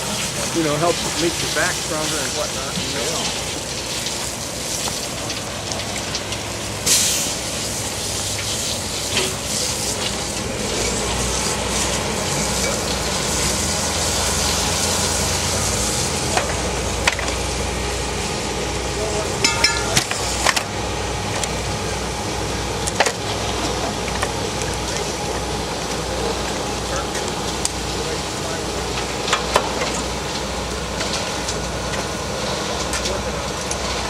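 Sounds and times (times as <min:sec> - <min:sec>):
engine running low: 0:00.0 - 0:34.0
wet concrete pouring: 0:00.0 - 0:34.0.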